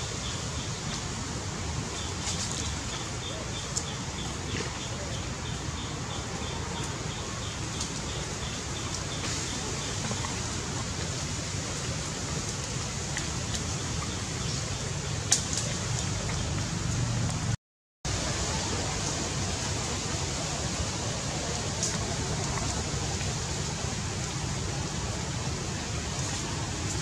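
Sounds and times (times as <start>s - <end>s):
steady hiss: 0.0s - 17.5s, 18.1s - 27.0s.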